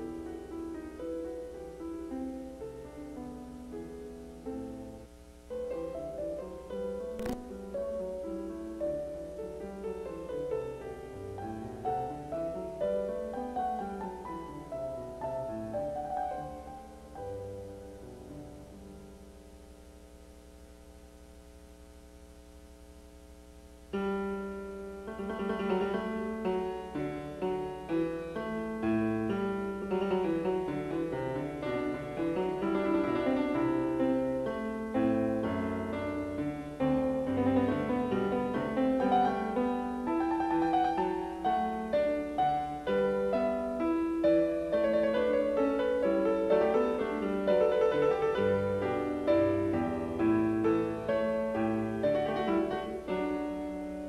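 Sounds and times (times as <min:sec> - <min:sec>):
piano-like keyboard music: 0:00.0 - 0:19.8, 0:23.9 - 0:54.0.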